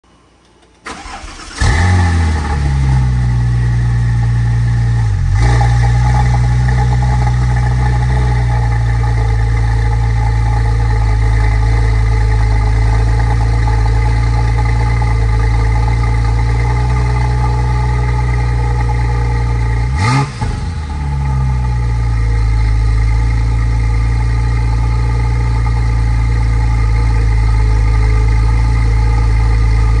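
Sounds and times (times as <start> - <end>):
car engine starting and idling: 0.6 - 30.0.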